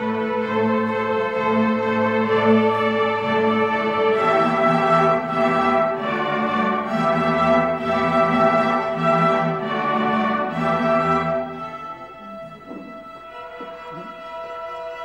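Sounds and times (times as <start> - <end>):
string orchestra playing chords: 0.0 - 15.0.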